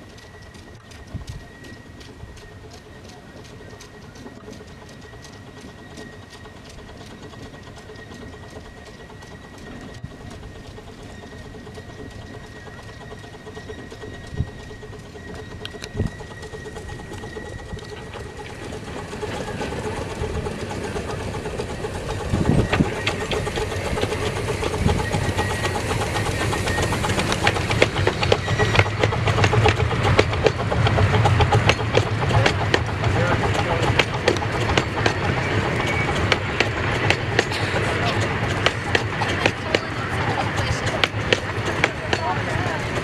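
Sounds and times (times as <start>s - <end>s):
steam locomotive chuffing: 0.0s - 43.0s
wheel clatter on rails: 0.0s - 43.0s.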